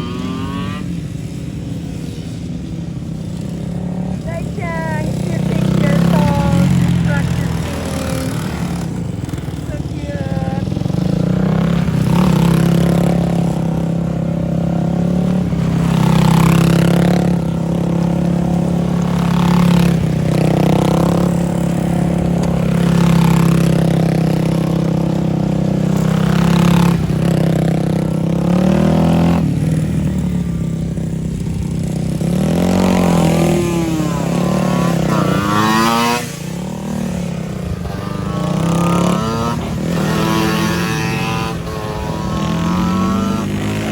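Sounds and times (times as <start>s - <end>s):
motorcycle engines revving and passing: 0.0s - 43.9s.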